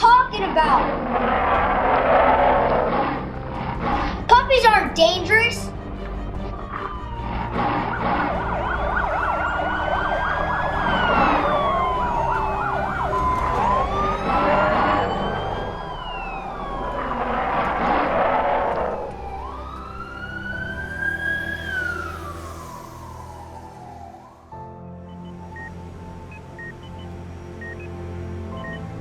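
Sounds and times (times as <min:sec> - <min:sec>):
background music: 0:00.0 - 0:29.0
emergency siren wailing: 0:00.2 - 0:04.3, 0:05.7 - 0:29.0.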